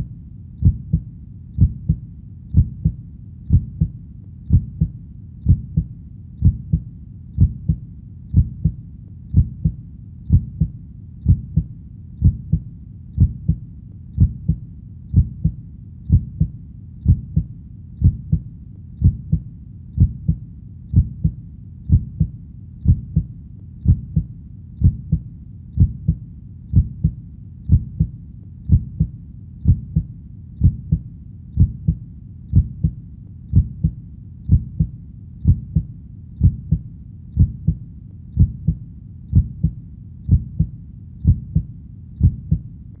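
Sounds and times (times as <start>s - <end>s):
heartbeat thumps: 0.6s - 13.6s, 14.2s - 43.0s.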